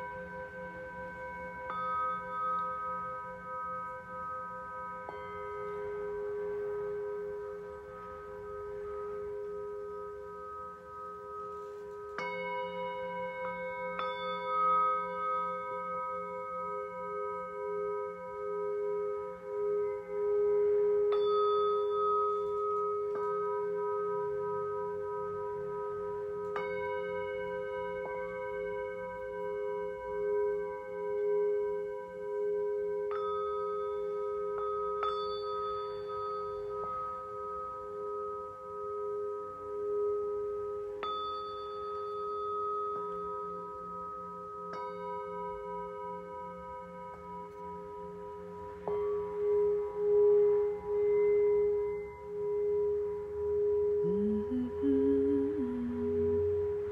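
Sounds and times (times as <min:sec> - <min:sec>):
singing bowls ringing: 0:00.0 - 0:56.9.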